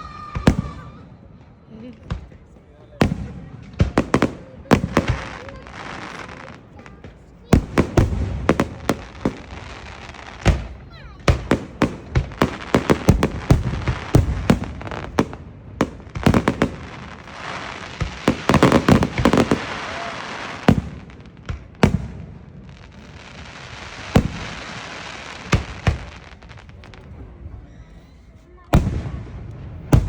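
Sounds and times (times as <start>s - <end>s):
fireworks bangs: 0.0s - 30.0s
fireworks hissing: 4.0s - 30.0s.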